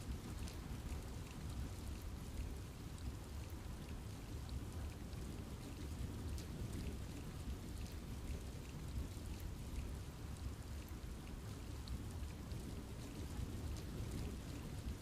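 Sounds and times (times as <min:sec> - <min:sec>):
raindrops ticking on leaves: 0:00.0 - 0:15.0
steady rain falling: 0:00.0 - 0:15.0.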